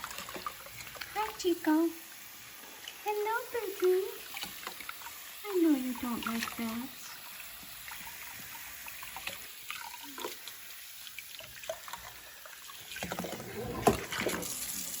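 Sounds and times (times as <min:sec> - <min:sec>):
water splashes: 0:00.0 - 0:02.0, 0:02.6 - 0:15.0
water trickling: 0:00.0 - 0:15.0.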